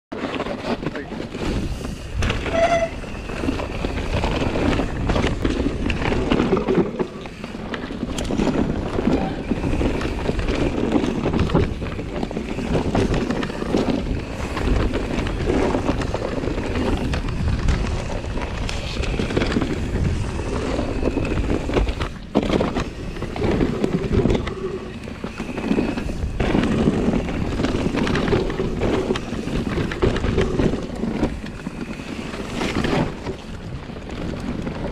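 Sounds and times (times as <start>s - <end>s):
bike rattling over bumps: 0.1s - 34.9s
tyres rolling over dirt: 0.1s - 34.9s
wind buffeting microphone: 1.0s - 34.9s.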